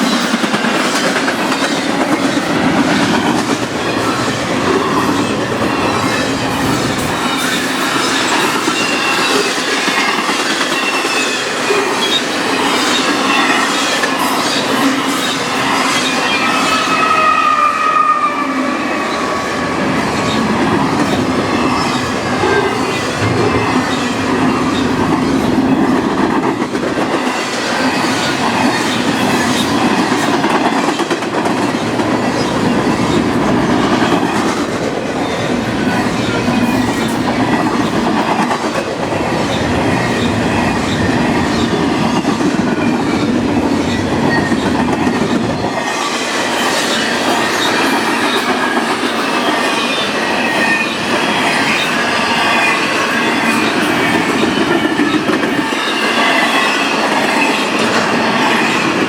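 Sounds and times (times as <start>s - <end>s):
wheels clacking over rail joints: 0.0s - 17.0s, 19.2s - 59.0s
freight train rolling past: 0.0s - 59.0s.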